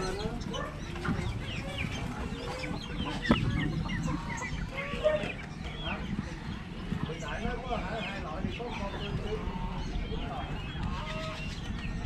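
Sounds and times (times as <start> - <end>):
busy background noise: 0.0 - 12.0
chickens clucking: 0.0 - 12.0
high chirping bird calls: 0.0 - 12.0.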